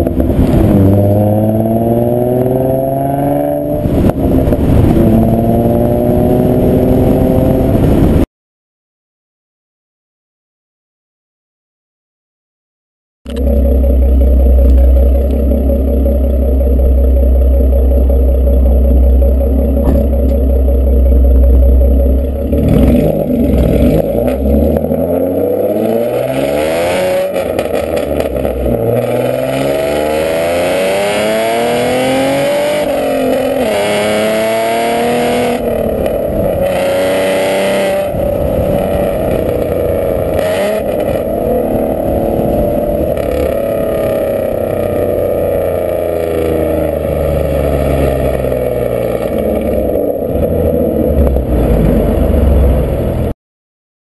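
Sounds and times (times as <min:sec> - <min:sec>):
car accelerating: 0:00.0 - 0:08.2, 0:13.3 - 0:53.3
car exhaust rumbling: 0:00.0 - 0:08.2, 0:13.3 - 0:53.3.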